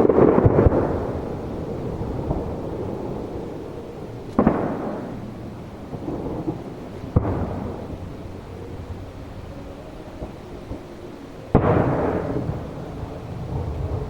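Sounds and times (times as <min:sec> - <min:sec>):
firework shells booming: 0:00.0 - 0:09.3, 0:11.5 - 0:14.0
steady low rumble: 0:00.0 - 0:14.0.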